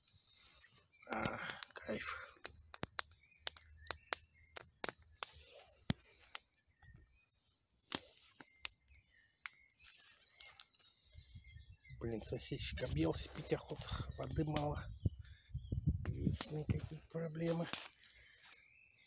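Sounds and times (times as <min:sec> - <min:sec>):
campfire crackling and popping: 0:00.0 - 0:11.8, 0:12.6 - 0:18.7
faint bird chirps: 0:00.0 - 0:19.0.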